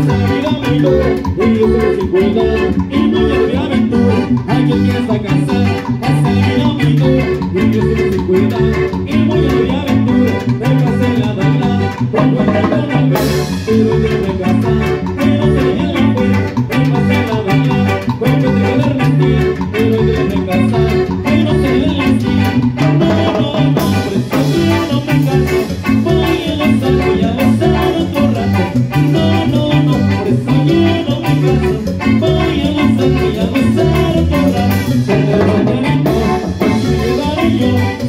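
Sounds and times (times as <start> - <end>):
latin dance band playing: 0.0 - 38.0.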